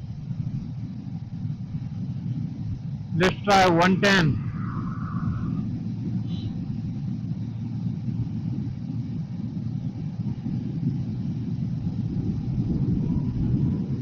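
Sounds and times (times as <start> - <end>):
motorcycle engine at highway speed: 0.0 - 14.0
wind buffeting microphone: 0.0 - 14.0.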